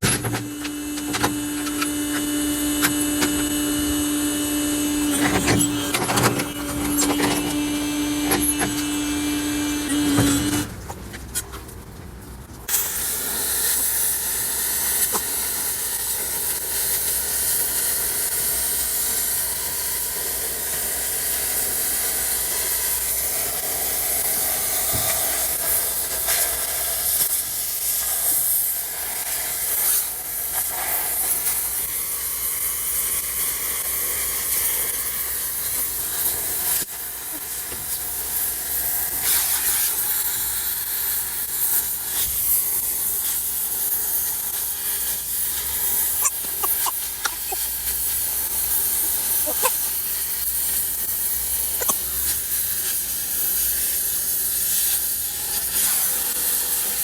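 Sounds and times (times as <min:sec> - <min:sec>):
cutting torch hissing: 0:00.0 - 0:10.7, 0:12.7 - 0:57.0.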